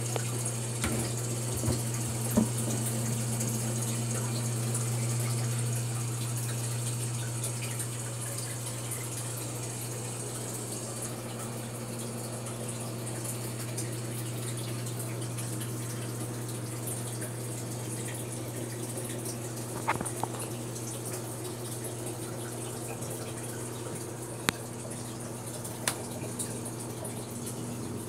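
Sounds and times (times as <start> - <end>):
pump humming: 0.0 - 28.0
water running: 0.0 - 28.0.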